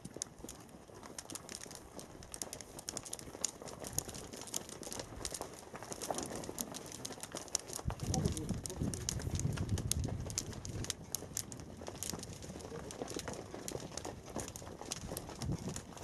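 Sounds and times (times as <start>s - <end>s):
hooves clicking and rustling: 0.0s - 16.0s.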